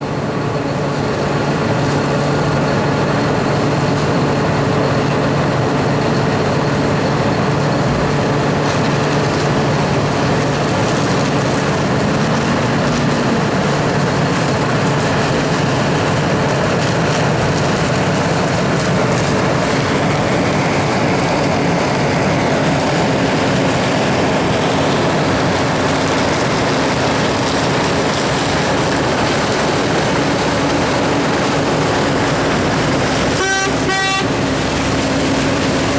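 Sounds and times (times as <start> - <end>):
dense rushing noise: 0.0 - 35.9
engine drone: 0.0 - 35.9.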